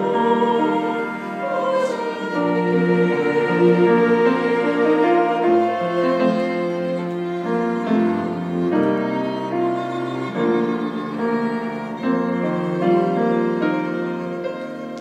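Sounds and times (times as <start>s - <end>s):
cellos: 0.0s - 15.0s
piano: 0.0s - 15.0s
violin: 0.0s - 15.0s.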